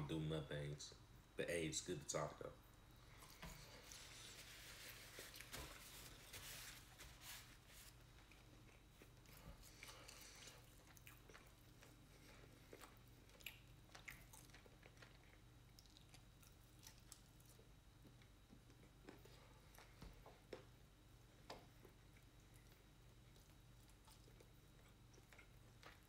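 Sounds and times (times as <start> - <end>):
low steady hum: 0.0 - 26.0
faint chewing: 3.1 - 26.0
soft clicks and crackles of food: 3.1 - 26.0.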